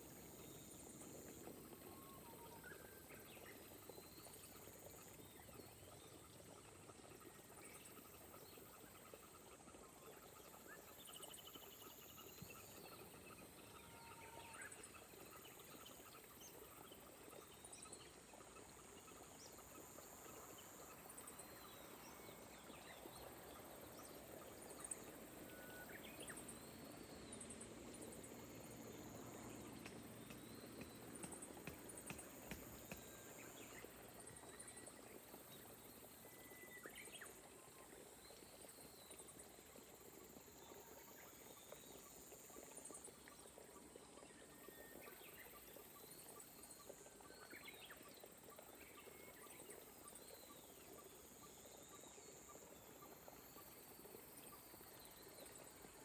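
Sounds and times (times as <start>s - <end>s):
soft rain hiss: 0.0s - 56.0s.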